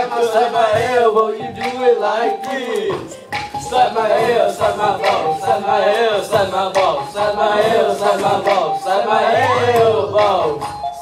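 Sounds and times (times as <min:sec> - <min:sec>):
boys singing a chant: 0:00.0 - 0:11.0.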